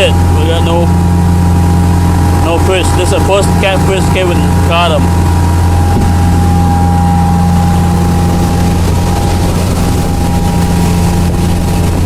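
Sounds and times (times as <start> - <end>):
high-pitched engine whine: 0.0 - 12.0
motorboat engine droning: 0.0 - 12.0.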